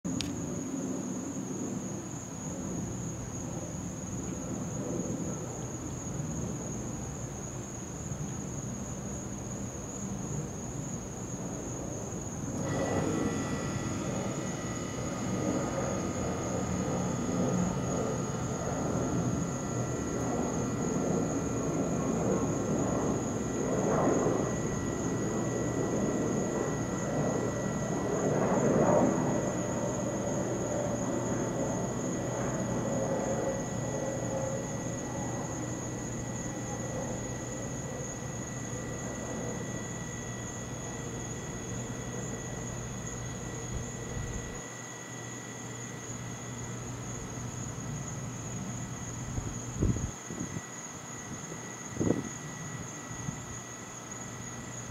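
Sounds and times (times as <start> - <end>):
night insects chorus: 0.0 - 54.9.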